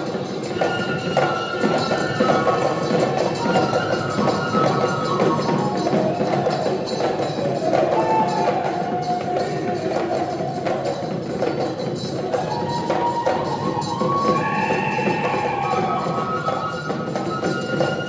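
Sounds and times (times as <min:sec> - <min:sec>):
fast folk percussion rhythm: 0:00.0 - 0:18.0.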